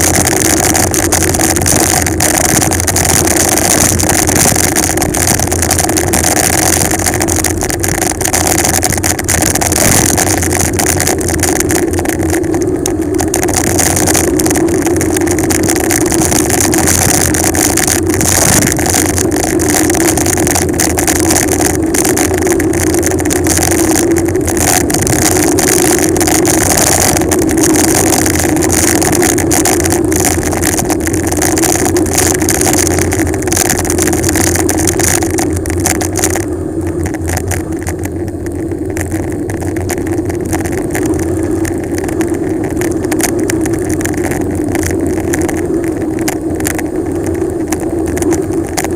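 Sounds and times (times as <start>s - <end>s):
small clicks and rattles: 0.0s - 48.9s
tyre and road noise: 0.0s - 48.9s
wind on microphone: 0.0s - 48.9s.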